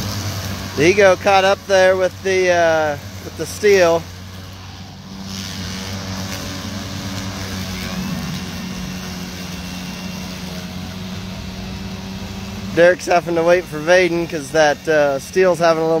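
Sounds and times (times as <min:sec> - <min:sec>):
electric lawn mowers cutting grass: 0:00.0 - 0:16.0.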